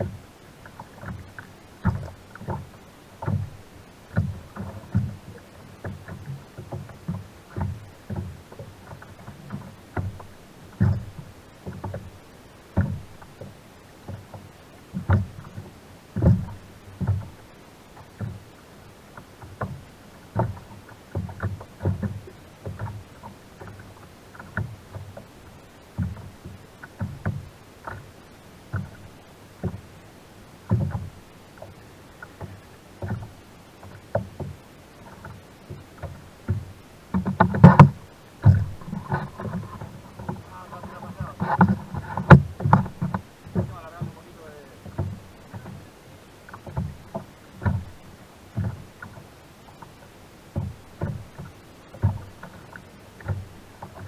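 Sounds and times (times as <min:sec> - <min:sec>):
waves slapping plastic hull: 0:00.0 - 0:54.0.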